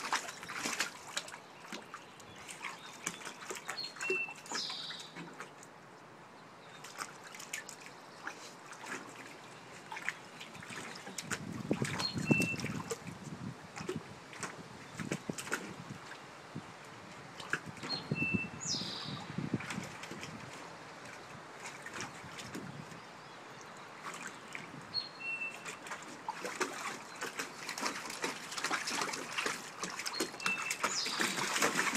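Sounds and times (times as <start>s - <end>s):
water sloshing: 0.0s - 5.8s, 6.7s - 16.4s, 17.0s - 31.9s
water splashing and trickling: 0.0s - 31.9s.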